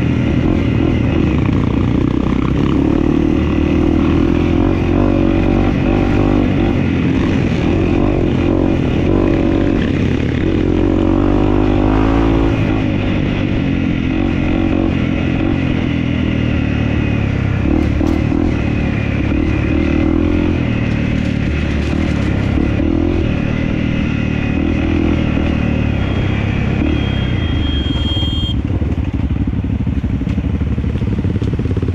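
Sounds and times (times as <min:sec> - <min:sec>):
dirt bike engine revving: 0:00.0 - 0:28.6.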